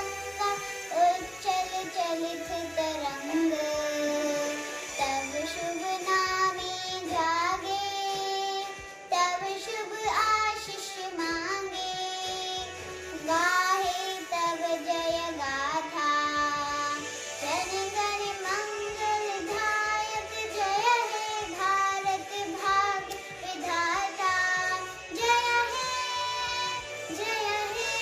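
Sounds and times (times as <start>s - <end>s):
backing music: 0.0s - 28.0s
child singing: 0.0s - 28.0s.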